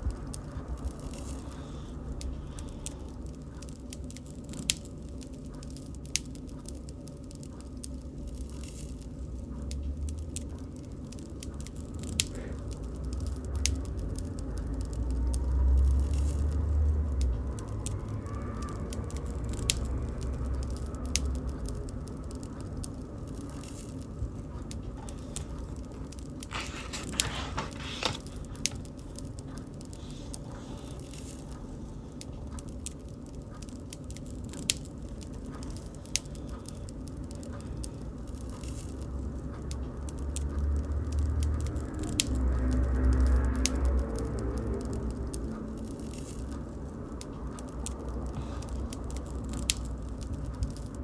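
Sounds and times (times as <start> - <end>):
bonfire crackling and popping: 0.0 - 51.0
low fire rumble: 0.0 - 51.0.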